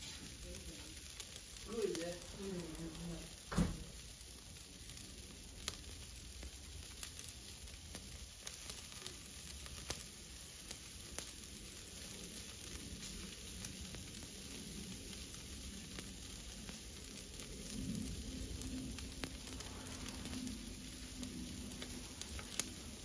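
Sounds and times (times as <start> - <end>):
meat sizzling on charcoal grill: 0.0 - 23.0
small pops and crackles: 0.1 - 23.0.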